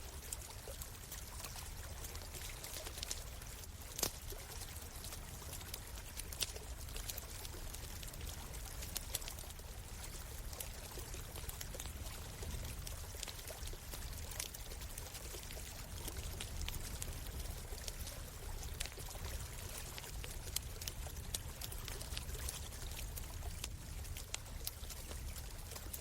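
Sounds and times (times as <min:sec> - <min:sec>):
small stream running: 0:00.0 - 0:26.0
campfire crackling and popping: 0:01.0 - 0:26.0.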